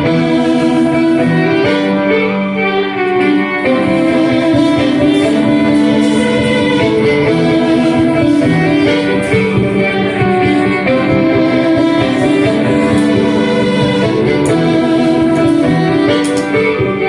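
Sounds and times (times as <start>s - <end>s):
live string instrument music: 0.0s - 17.0s.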